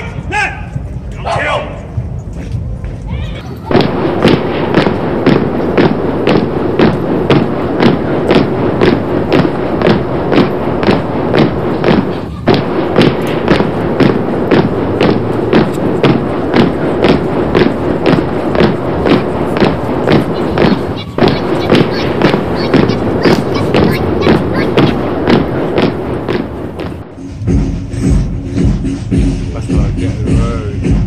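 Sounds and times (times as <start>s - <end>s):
continuous steady sound: 0.0s - 31.0s
parade marching beat: 0.0s - 31.0s.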